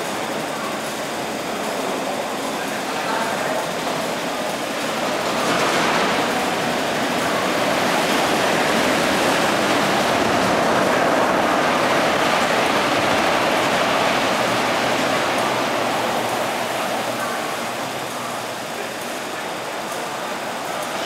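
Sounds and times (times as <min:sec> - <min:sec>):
locomotive passing: 0:00.0 - 0:21.0.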